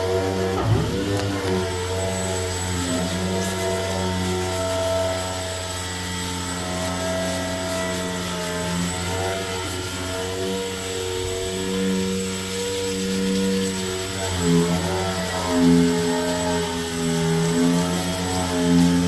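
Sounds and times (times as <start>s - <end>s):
power tool motor humming: 0.0s - 19.0s.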